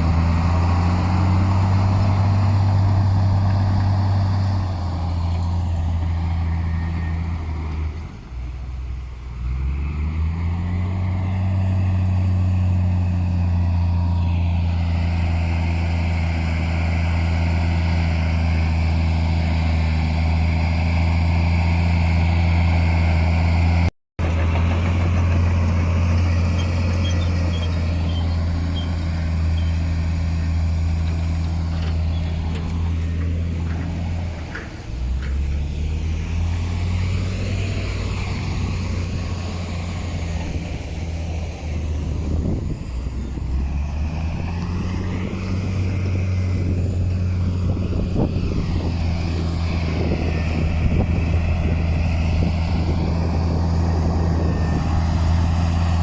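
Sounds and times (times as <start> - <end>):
heavy diesel engine running: 0.0 - 9.4, 10.5 - 56.0.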